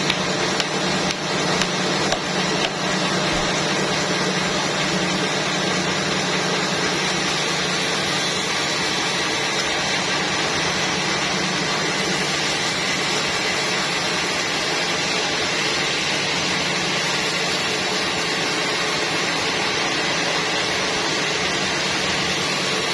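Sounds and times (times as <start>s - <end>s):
sawmill saw whirring: 0.0s - 22.9s.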